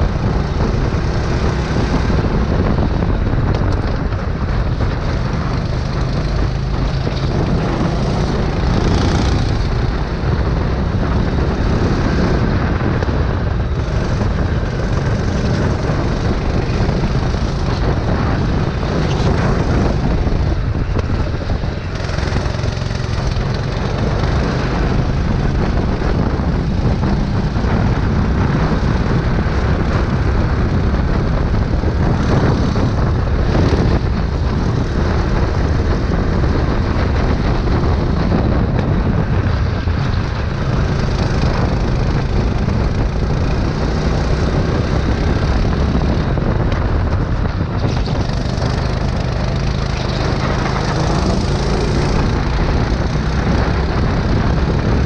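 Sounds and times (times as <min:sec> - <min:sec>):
go-kart engine rumbling: 0:00.0 - 0:55.0.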